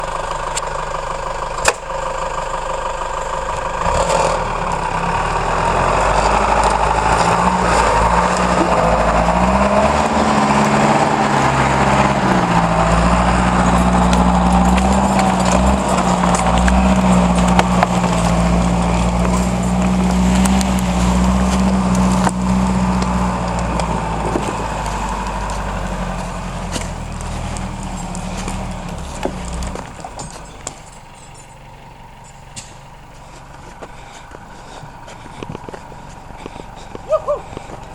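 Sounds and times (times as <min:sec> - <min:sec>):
diesel engine running under load: 0:00.0 - 0:37.9.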